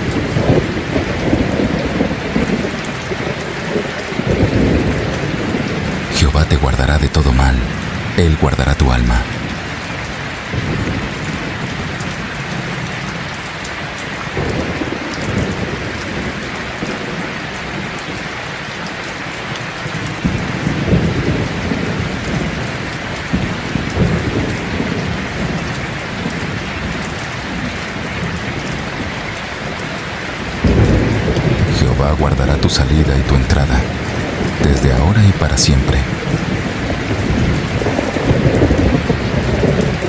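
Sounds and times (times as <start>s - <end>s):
low thunder rumbling: 0.0s - 8.2s, 9.0s - 13.2s, 19.9s - 40.0s
rain falling: 0.0s - 40.0s.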